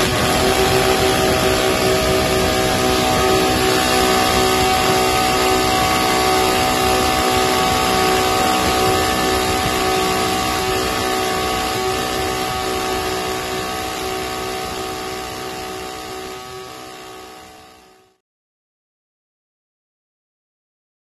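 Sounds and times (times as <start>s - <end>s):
brush cutter engine running: 0.0s - 18.1s.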